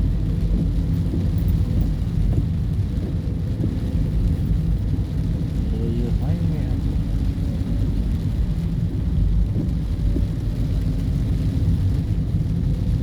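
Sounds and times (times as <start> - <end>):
vehicle driving on road: 0.0 - 13.0.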